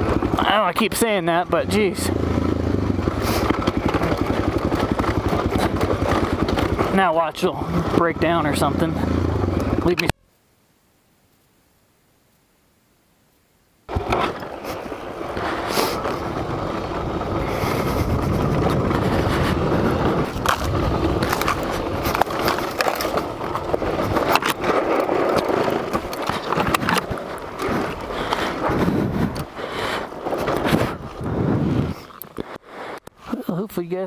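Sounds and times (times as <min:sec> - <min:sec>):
motorcycle on rocky trail: 0:00.0 - 0:10.1, 0:13.9 - 0:34.0.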